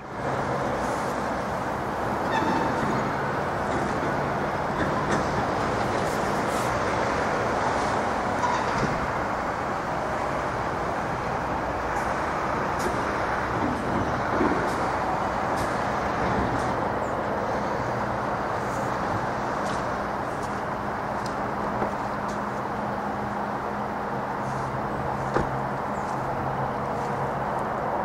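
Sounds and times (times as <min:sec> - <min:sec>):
rumble of train wheels on rails: 0:00.0 - 0:28.0.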